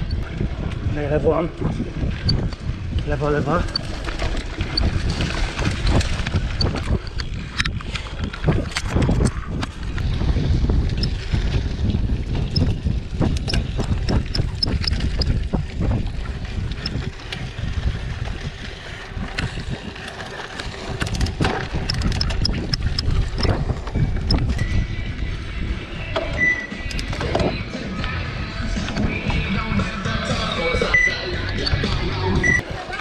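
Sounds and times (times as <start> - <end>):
bike rattling over bumps: 0.0 - 27.8
wind buffeting the microphone: 0.0 - 30.0
tyre rumble: 0.0 - 30.8.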